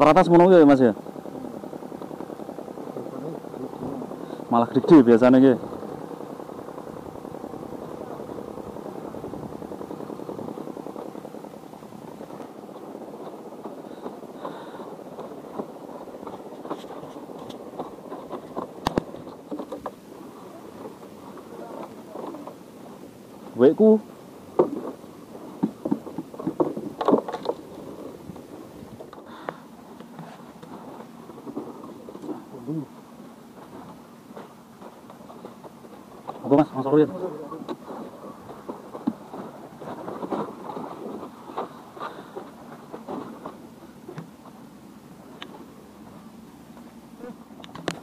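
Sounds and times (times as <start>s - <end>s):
fluttering motor drone: 0.0s - 48.0s.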